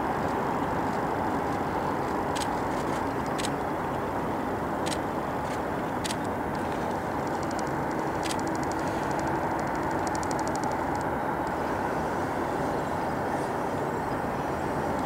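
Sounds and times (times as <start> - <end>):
distant jet engines rushing: 0.0 - 15.0.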